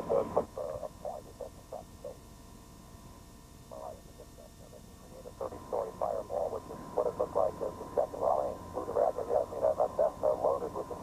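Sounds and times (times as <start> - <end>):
voice through radio speaker: 0.0 - 2.2, 3.7 - 11.0
steady electrical whine: 0.0 - 11.0.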